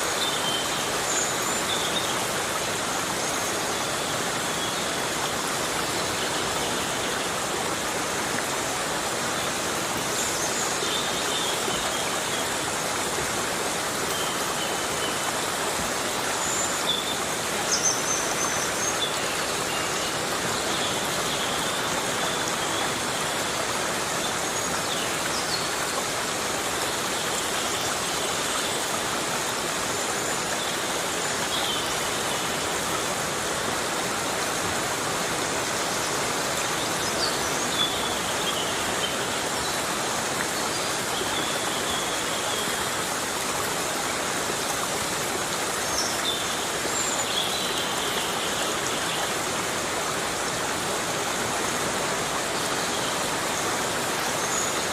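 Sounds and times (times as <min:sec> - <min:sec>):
heavy rain on forest: 0:00.0 - 0:54.9.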